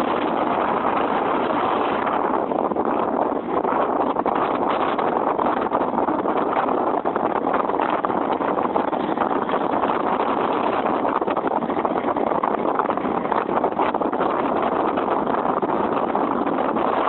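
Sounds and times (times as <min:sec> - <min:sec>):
motorcycle riding roar: 0:00.0 - 0:17.0.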